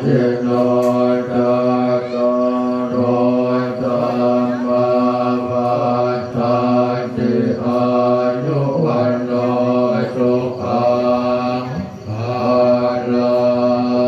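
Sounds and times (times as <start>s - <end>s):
monks chanting over microphones: 0.0s - 14.0s.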